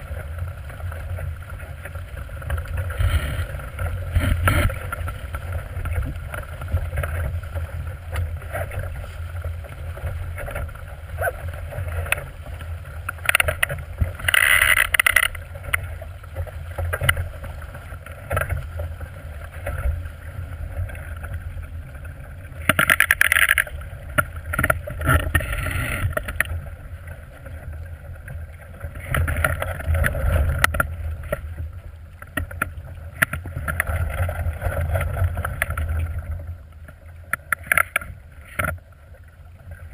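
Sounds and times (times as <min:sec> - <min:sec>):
water splashing along hull: 0:00.0 - 0:39.9.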